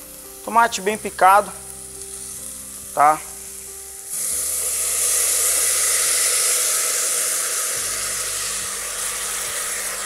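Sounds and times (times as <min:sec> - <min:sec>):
tomatoes sizzling in hot oil: 0:00.0 - 0:10.0.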